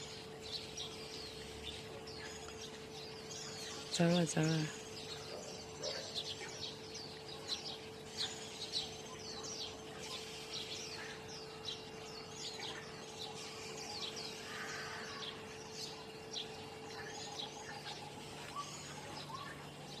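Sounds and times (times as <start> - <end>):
faint hum: 0.0 - 20.0
small birds chirping: 0.0 - 20.0.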